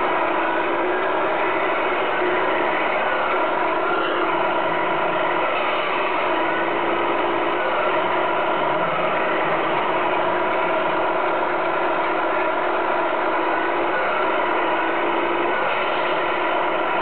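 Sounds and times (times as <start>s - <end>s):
toy truck mechanical whirr: 0.0s - 17.0s.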